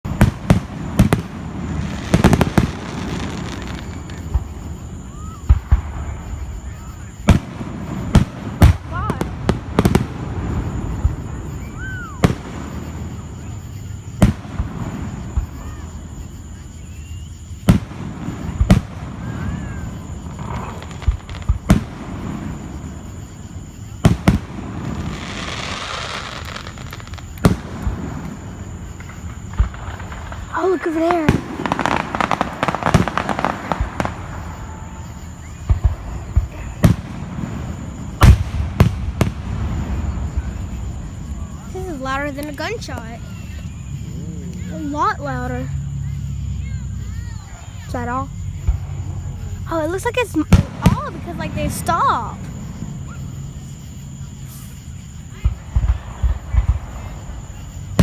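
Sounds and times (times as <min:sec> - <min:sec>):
fireworks bangs: 0:00.0 - 0:58.0
fireworks crackle and rumble: 0:00.0 - 0:58.0.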